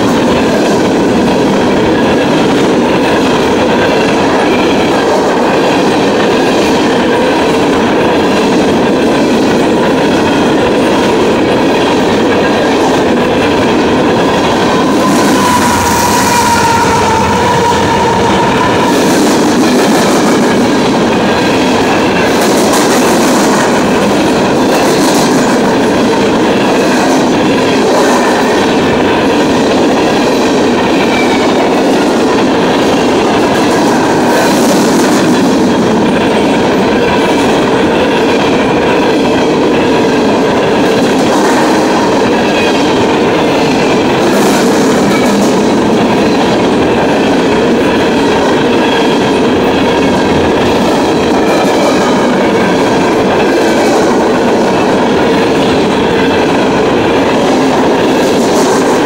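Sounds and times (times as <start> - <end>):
steel wheels rushing on rail: 0.0 - 59.0.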